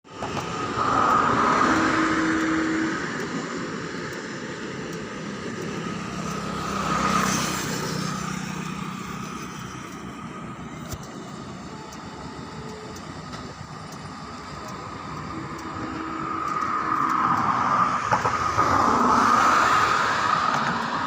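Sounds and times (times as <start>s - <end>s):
motor vehicles passing: 0.1s - 21.0s
steady rushing noise: 0.1s - 21.0s.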